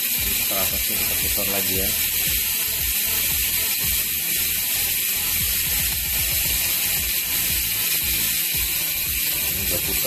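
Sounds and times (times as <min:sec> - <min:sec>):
bicycle freehub buzzing: 0:00.0 - 0:10.0.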